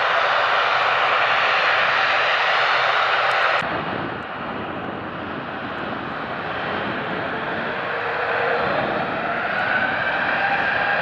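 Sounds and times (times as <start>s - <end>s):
jet engines hiss and rumble: 0.0s - 11.0s.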